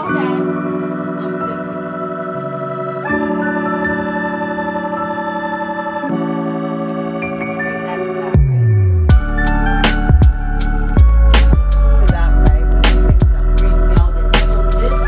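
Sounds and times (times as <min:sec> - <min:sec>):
sustained organ chords: 0:00.0 - 0:15.0.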